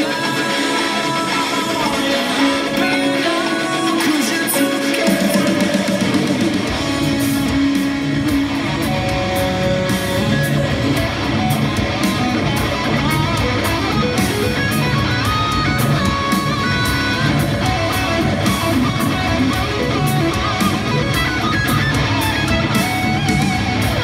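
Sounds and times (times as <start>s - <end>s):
backing track drums and bass: 0.0s - 24.0s
heavy metal electric guitar: 0.0s - 24.0s.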